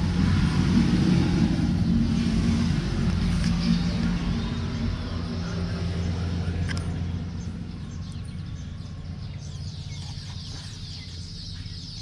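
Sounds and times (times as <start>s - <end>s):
low engine hum: 0.0s - 12.0s
birds chirping: 1.7s - 12.0s.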